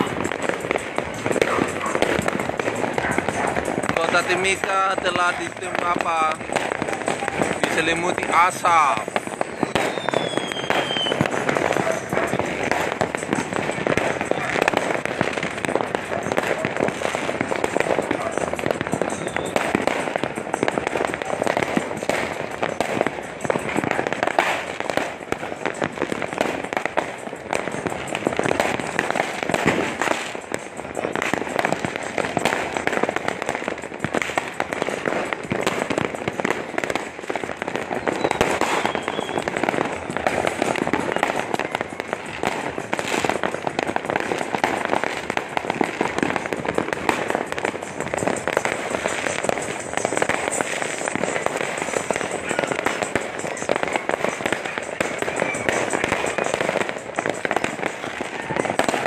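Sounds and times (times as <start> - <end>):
firecrackers crackling: 0.0 - 59.0.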